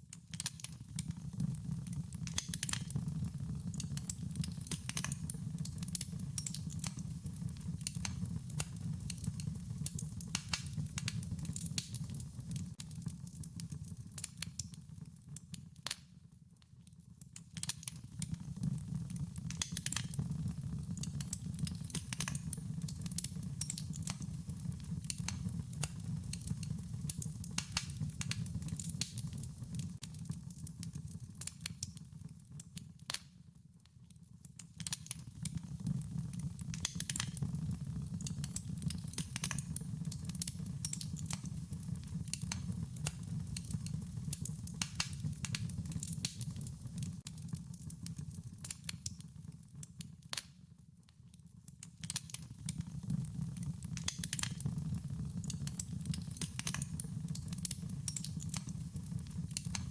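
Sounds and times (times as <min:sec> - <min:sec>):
wood fire crackling: 0:00.1 - 0:16.1, 0:17.0 - 0:33.4, 0:34.2 - 0:50.6, 0:51.8 - 0:59.9
fire pops and snaps: 0:00.1 - 0:16.3, 0:17.2 - 0:33.4, 0:34.4 - 0:50.6, 0:51.6 - 0:59.9
low rumble of burning: 0:00.4 - 0:15.5, 0:17.2 - 0:32.9, 0:34.8 - 0:49.5, 0:52.2 - 0:59.9.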